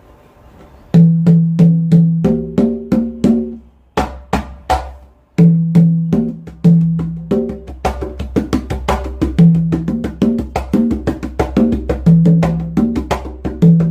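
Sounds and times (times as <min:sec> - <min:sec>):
congas played by hand: 0:00.9 - 0:13.9
sharp conga slaps: 0:01.0 - 0:13.9.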